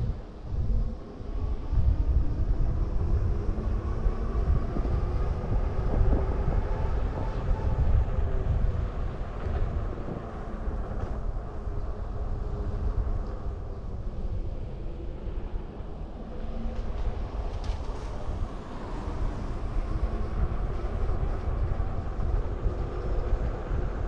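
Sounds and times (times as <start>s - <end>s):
road rumble: 0.0s - 24.0s
wind buffeting microphone: 0.0s - 24.0s.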